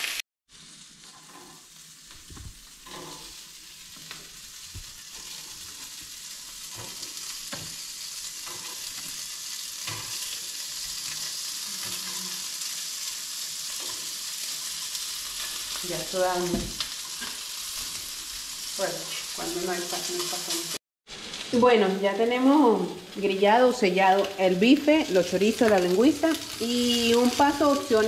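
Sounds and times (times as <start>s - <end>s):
meat sizzling in frying pans: 0.0s - 28.0s.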